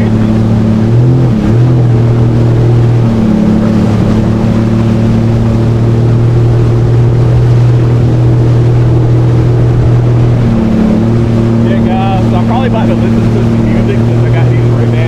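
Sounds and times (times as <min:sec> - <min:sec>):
jet ski engine drone: 0:00.0 - 0:15.0
water and wind noise: 0:00.0 - 0:15.0.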